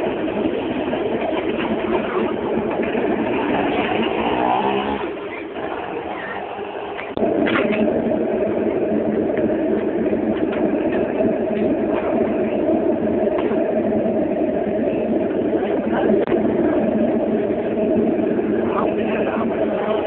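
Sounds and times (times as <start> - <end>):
furnace roaring: 0.0 - 20.0.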